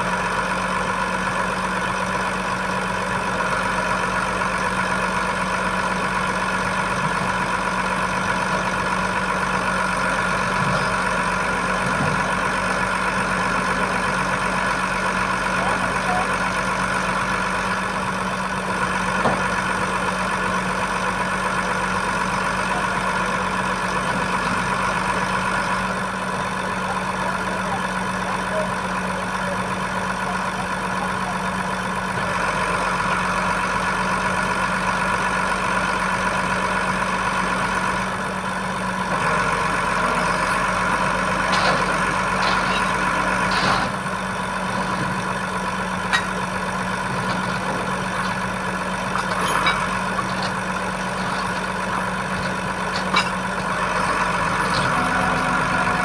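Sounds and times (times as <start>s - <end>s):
truck diesel engine idling: 0.0s - 56.0s.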